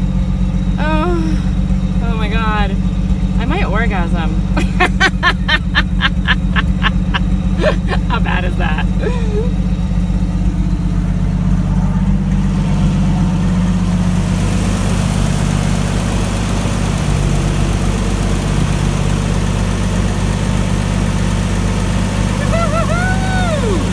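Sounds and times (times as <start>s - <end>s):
engine idling: 0.0s - 23.9s.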